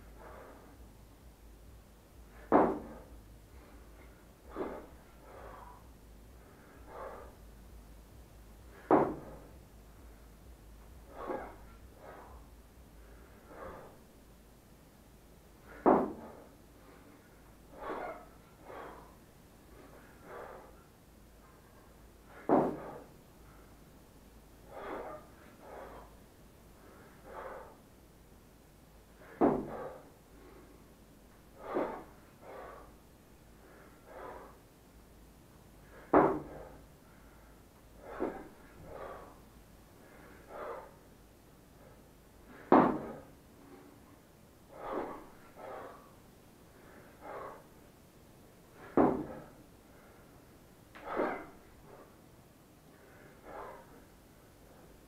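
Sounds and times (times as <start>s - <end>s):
man breathing forcefully: 0.0s - 55.0s.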